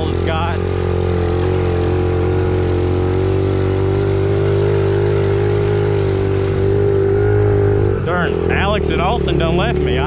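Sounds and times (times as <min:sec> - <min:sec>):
pit bike engine running: 0:00.0 - 0:10.0.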